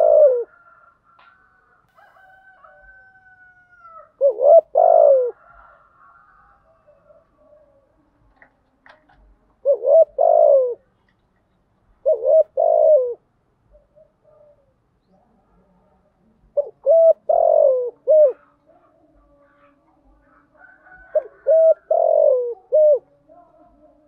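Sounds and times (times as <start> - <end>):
dove cooing: 0.0 - 1.0, 2.8 - 8.0, 9.1 - 11.0, 12.0 - 24.0.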